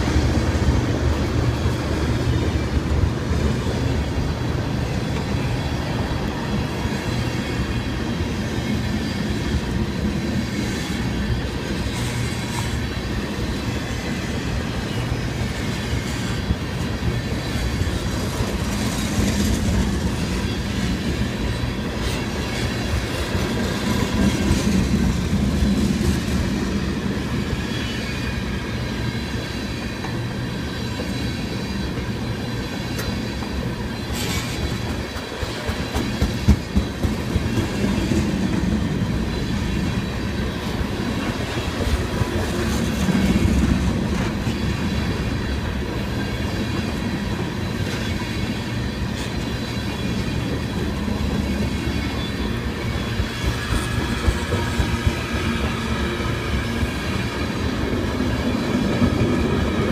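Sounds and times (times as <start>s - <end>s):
freight train rumbling: 0.0s - 59.9s.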